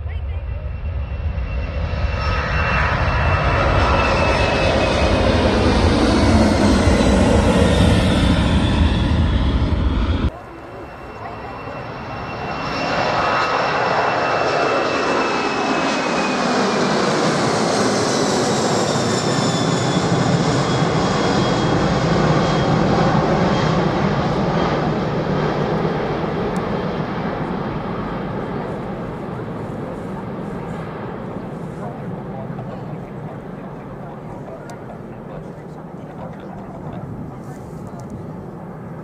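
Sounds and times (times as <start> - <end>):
jet aircraft passing: 0.0 - 39.0.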